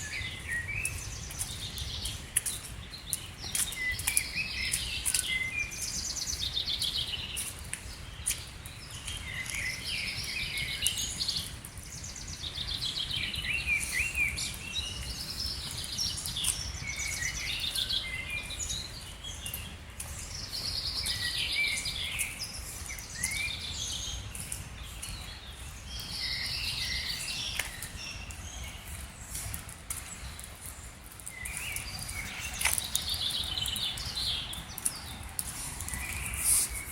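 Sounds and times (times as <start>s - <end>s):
songbird singing: 0.0s - 36.9s.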